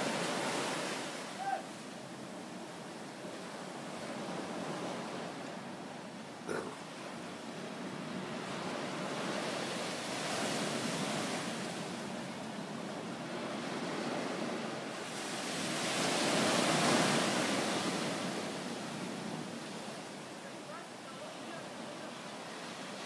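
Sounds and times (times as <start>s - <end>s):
ocean waves rushing: 0.0s - 23.0s.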